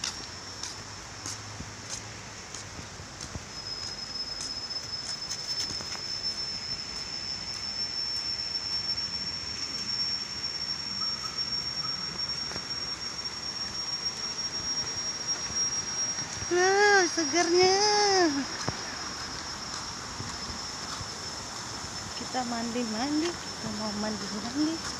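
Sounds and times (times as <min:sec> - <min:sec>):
insect high-pitched whine: 0:00.0 - 0:24.9.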